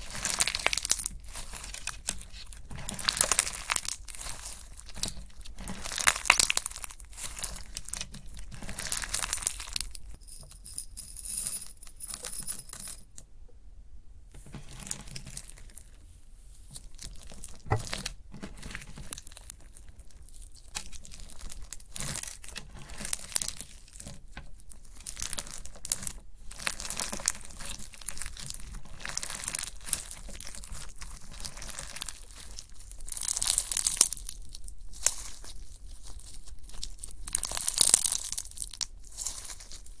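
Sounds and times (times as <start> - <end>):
slime crackling and popping: 0.0 - 10.0, 16.9 - 40.0.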